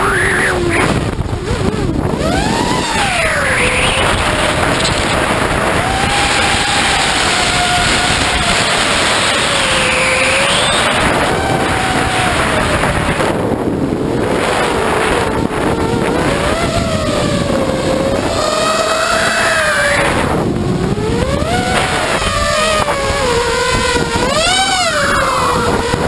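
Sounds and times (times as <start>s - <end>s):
drone motors whining: 0.0s - 26.0s
rush of wind: 0.0s - 26.0s.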